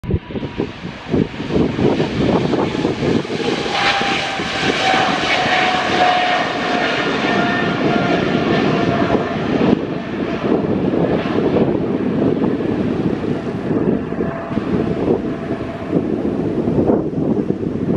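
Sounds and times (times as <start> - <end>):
jet engine roar with whine: 0.0 - 17.9.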